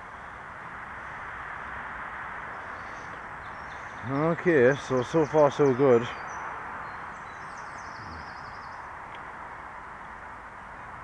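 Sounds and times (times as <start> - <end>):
wind and tyres rushing: 0.0 - 11.0.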